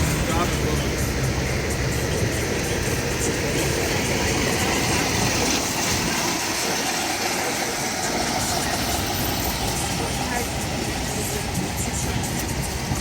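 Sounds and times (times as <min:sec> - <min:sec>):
truck engine and rolling rumble: 0:00.0 - 0:13.0.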